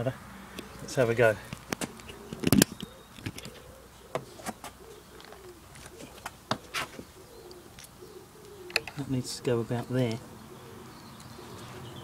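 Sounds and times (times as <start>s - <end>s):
pigeon cooing: 1.8s - 12.0s.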